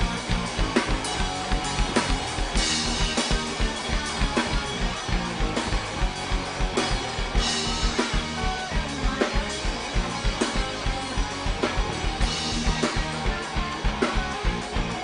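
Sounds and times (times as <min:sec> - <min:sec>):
drum kit beat: 0:00.0 - 0:15.0
rock band playing: 0:00.0 - 0:15.0.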